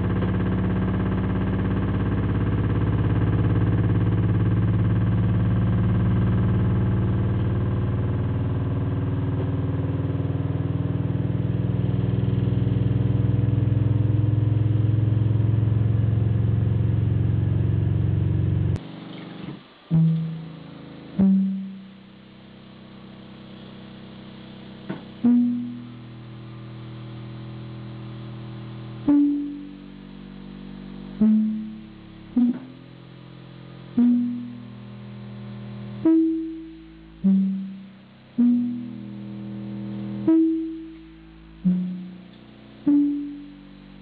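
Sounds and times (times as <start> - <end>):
low plucked bass notes: 0.0 - 18.8, 19.9 - 20.6, 21.2 - 22.0, 25.2 - 26.8, 29.0 - 44.0.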